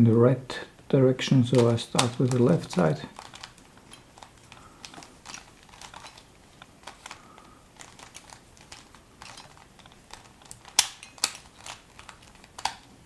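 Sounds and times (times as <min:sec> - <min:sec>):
puzzle cube plastic clicks: 0:01.3 - 0:13.0
puzzle cube snaps: 0:01.5 - 0:13.0.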